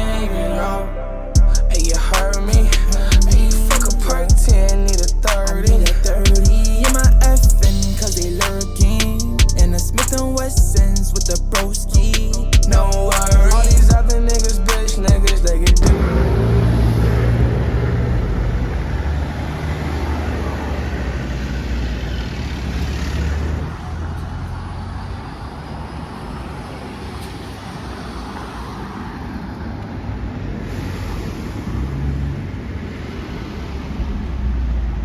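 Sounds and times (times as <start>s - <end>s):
bus rumbling on the road: 0.0s - 35.0s.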